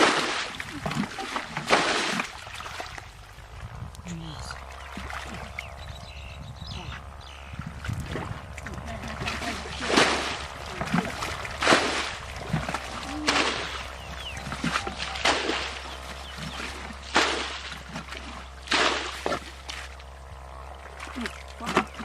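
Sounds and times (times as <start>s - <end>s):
water splashing: 0.0s - 3.6s, 4.6s - 5.7s, 7.8s - 22.0s.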